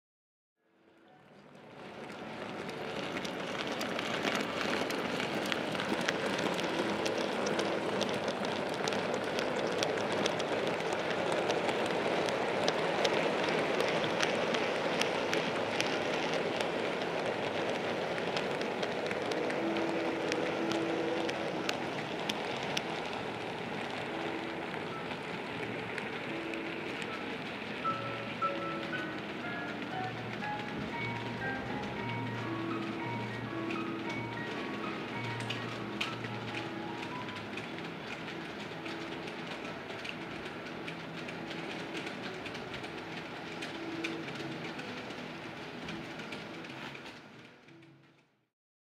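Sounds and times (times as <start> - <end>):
model train wagons rolling: 1.0 - 48.5
wheels clicking over rail joints: 1.6 - 48.4.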